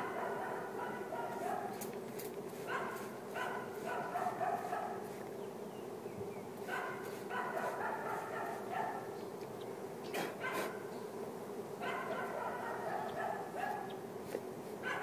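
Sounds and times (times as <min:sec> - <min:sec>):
bee swarm humming: 0:00.0 - 0:14.9.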